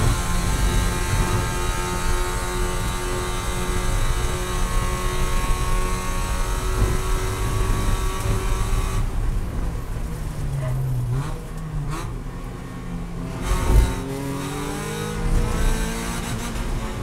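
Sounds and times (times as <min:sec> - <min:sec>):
car engine running at high pitch: 0:00.0 - 0:17.0
wind and road noise: 0:00.0 - 0:17.0.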